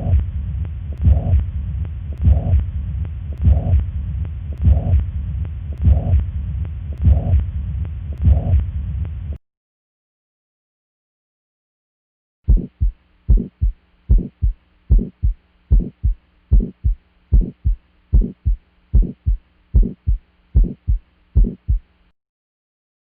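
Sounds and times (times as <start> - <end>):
faint steady hum: 0.0 - 9.4, 12.5 - 22.2
heartbeat lub-dub: 0.0 - 9.4, 12.5 - 22.0.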